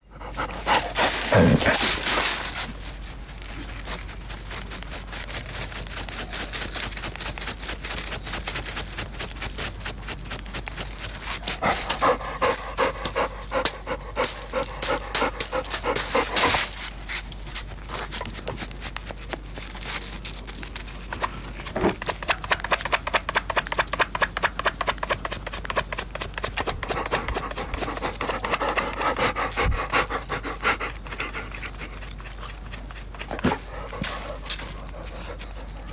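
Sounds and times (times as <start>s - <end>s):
dog panting: 0.0s - 17.4s, 21.1s - 35.9s
dog scratching fur: 0.4s - 35.9s.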